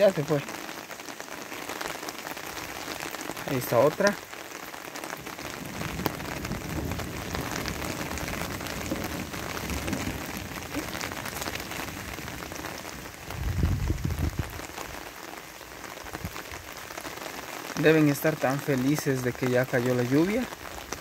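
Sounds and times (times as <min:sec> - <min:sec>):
light rain pattering: 0:00.0 - 0:21.0.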